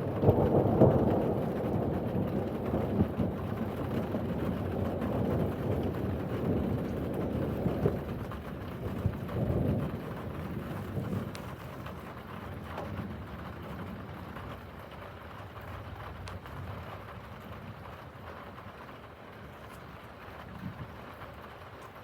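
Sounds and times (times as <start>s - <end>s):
thunder rumbling: 0.0s - 18.8s
rain falling: 0.0s - 22.0s.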